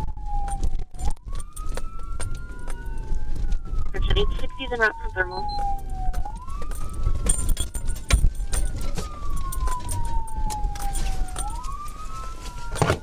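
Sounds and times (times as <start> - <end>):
car engine and road rumble: 0.0 - 13.0
police siren wailing: 0.0 - 13.0.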